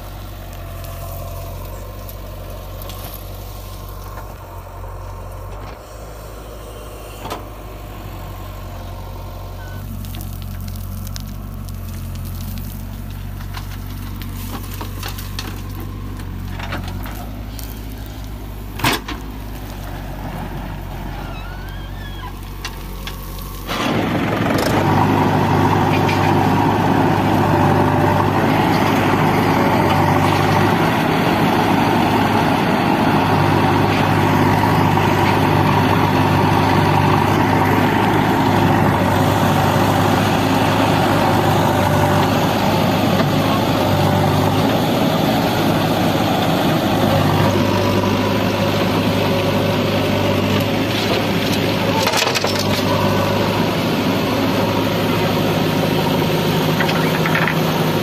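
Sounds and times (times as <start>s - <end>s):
diesel engines running: 0.0s - 58.0s
rough engine sound: 0.0s - 58.0s.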